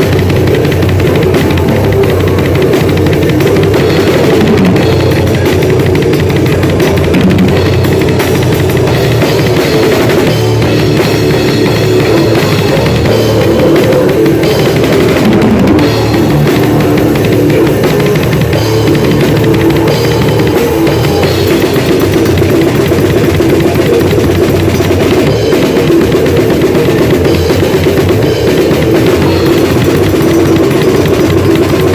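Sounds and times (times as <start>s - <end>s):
drum kit played fast: 0.0s - 31.9s.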